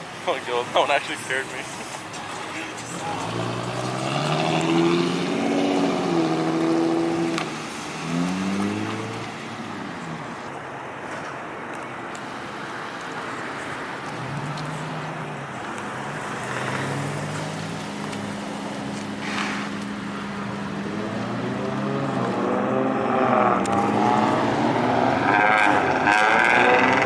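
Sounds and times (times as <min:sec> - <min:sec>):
car engines running: 0:00.0 - 0:27.0
traffic hum: 0:00.0 - 0:27.0
car engine revving: 0:01.6 - 0:10.6, 0:13.2 - 0:27.0.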